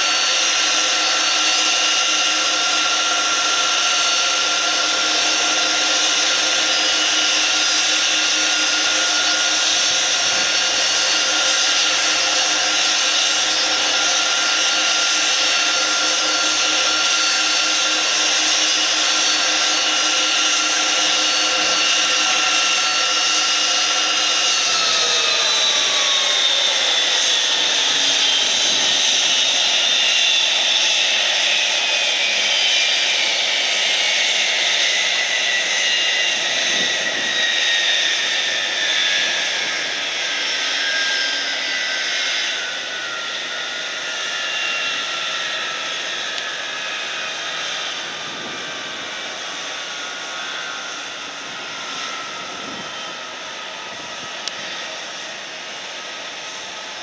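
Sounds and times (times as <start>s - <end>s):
jet engines idling whine: 0.0s - 57.0s.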